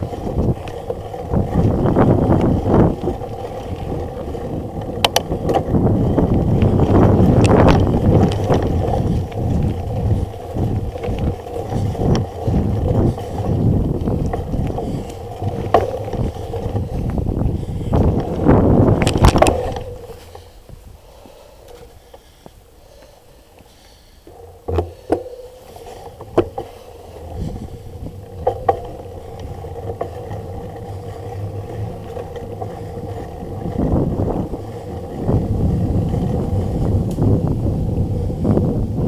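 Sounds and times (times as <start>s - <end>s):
wind rushing over microphone: 0.0s - 21.0s, 24.3s - 39.0s
bike clacking and rattling: 0.0s - 39.0s
tyres rolling on dirt: 0.0s - 39.0s.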